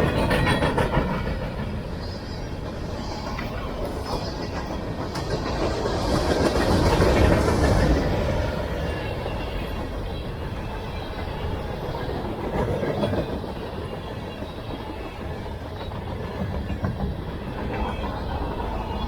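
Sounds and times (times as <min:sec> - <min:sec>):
freight train wheels rumbling on rail: 0:00.0 - 0:19.0
wheels clickety-clack: 0:00.0 - 0:19.0.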